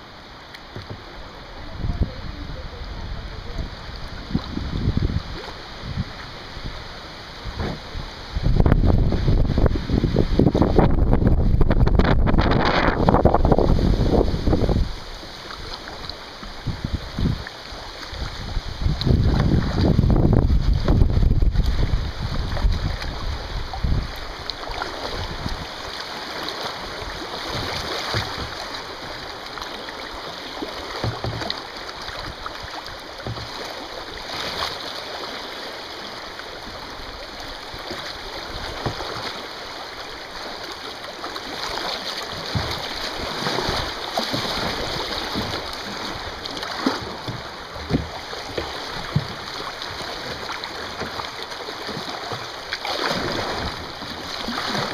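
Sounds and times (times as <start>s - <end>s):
river water rushing over rocks: 0.0s - 54.9s
paddle splashes and knocks: 0.5s - 2.1s, 3.4s - 54.9s.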